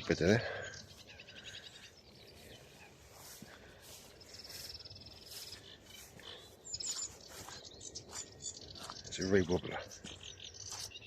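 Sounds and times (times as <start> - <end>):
reed warbler singing: 0.0 - 11.0.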